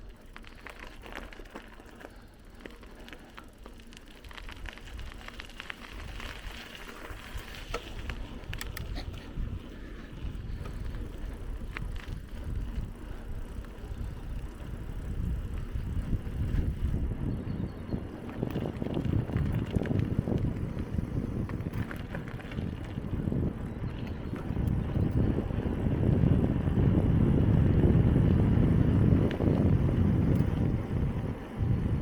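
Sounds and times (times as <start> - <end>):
bicycle tyres rolling on gravel: 0.0 - 32.0
wind rumbling on microphone: 0.0 - 32.0.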